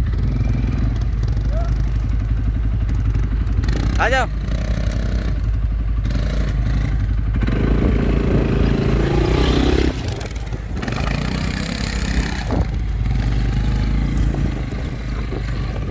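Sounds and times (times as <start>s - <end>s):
quad bike engine revving: 0.0s - 15.9s.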